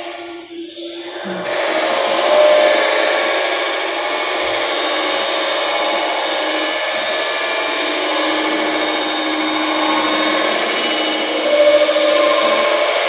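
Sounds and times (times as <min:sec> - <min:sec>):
electronic noise drone: 0:00.0 - 0:13.0
thin high tone: 0:01.4 - 0:13.0.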